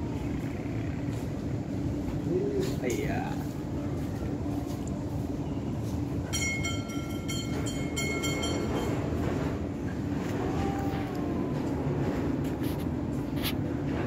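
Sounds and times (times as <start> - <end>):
low rumble with hum: 0.0 - 14.0.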